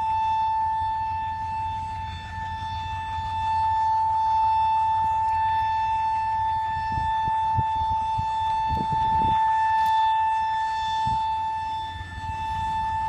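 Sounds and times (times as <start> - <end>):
locomotive air horn: 0.0 - 13.0.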